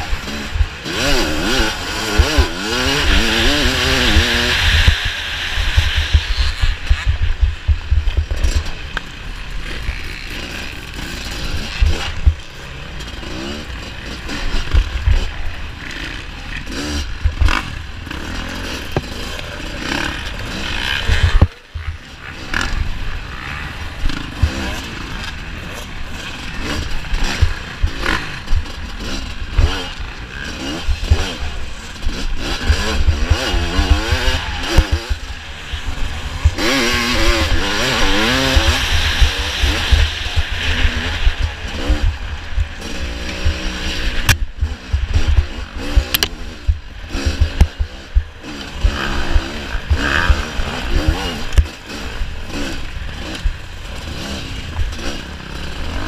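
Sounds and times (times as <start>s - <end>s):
motorcycles revving past: 0.0s - 56.0s.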